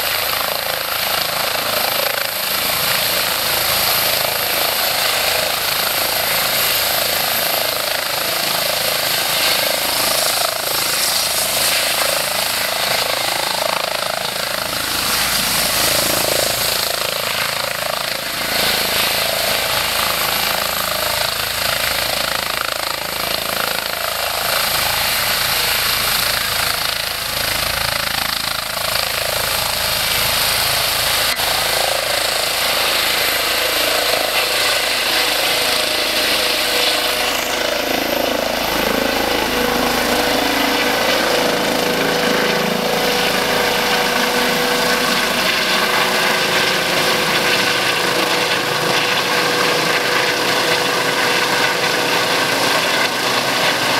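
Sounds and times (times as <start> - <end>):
helicopter rotor chop: 0.0 - 53.9.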